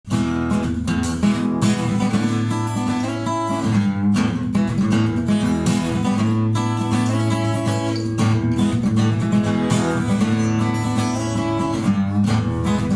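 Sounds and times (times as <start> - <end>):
acoustic guitar chords strummed: 0.1 - 12.9.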